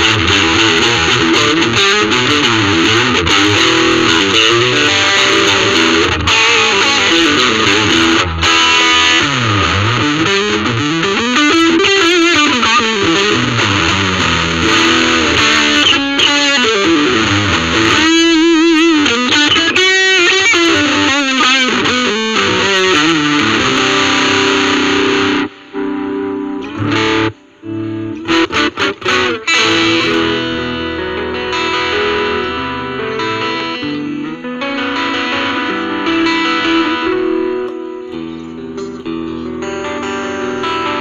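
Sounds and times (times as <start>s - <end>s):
distorted electric guitar: 0.0s - 41.0s.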